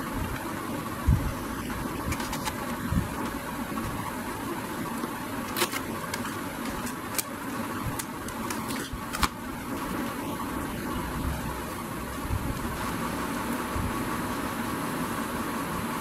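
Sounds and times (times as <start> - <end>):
background rumble and hiss: 0.0 - 16.0.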